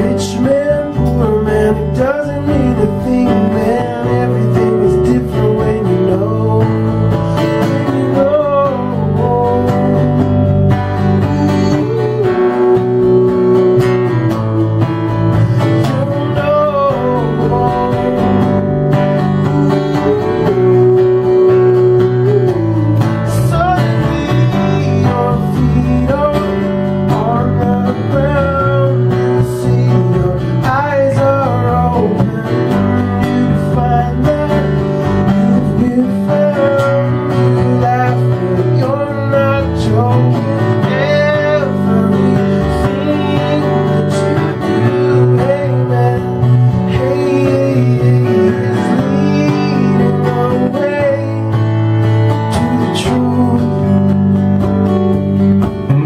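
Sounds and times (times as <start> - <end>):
man singing: 0.0 - 54.5
strummed acoustic guitar: 0.0 - 56.0.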